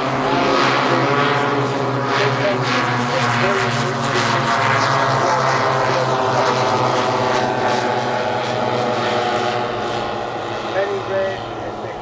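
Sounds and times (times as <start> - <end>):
model plane propeller engines: 0.0 - 12.0.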